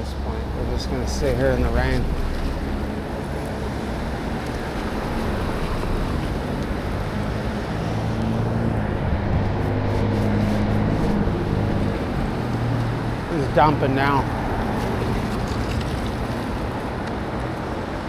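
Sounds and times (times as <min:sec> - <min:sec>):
traffic on wet road: 0:00.0 - 0:18.0
vehicle engine hum: 0:00.0 - 0:18.0
heavy rain: 0:00.3 - 0:17.6.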